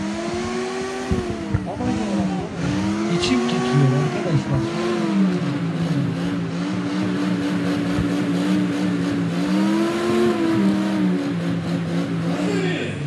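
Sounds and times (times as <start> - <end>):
jeep engine running: 0.0 - 13.0.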